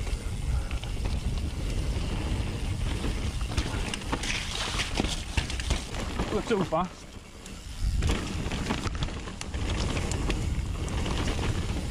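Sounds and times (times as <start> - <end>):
bike chain and suspension clicks: 0.0 - 11.9
tyres rumbling on dirt and rock: 0.0 - 11.9
wind buffeting microphone: 0.0 - 11.9.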